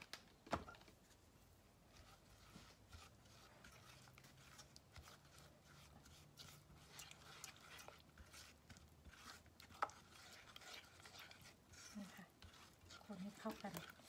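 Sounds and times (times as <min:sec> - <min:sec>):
spatula scraping in saucepan: 0:01.8 - 0:14.0.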